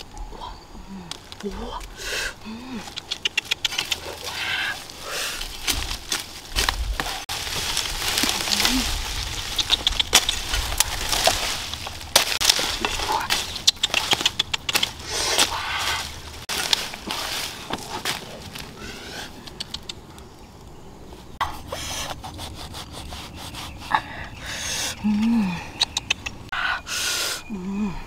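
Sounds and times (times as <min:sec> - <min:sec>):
dry leaves and twigs crackling: 0:00.0 - 0:26.5.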